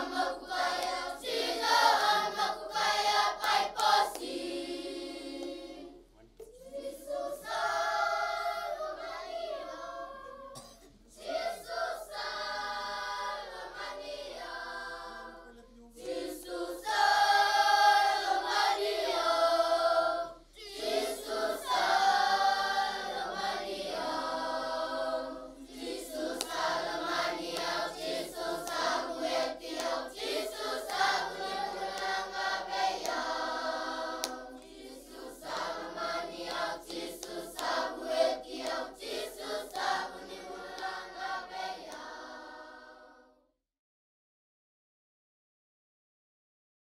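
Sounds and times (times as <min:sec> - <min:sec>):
children's choir singing: 0:00.0 - 0:43.4.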